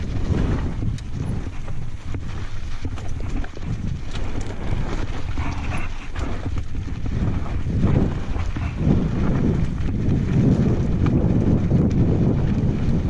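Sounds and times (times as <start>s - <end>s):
bike rattling: 0.0s - 13.0s
wind buffeting microphone: 0.0s - 13.0s.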